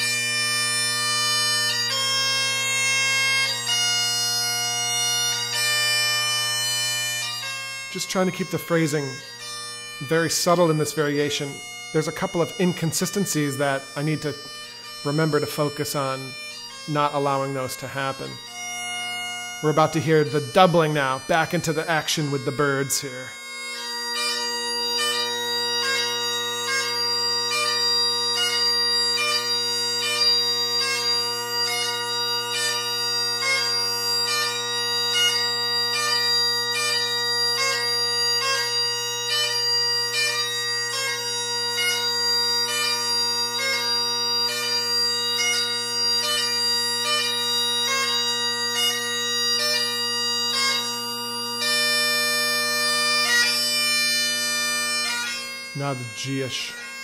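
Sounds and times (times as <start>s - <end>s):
bagpipe chanter melody: 0.0s - 57.0s
bagpipe drones: 0.0s - 57.0s.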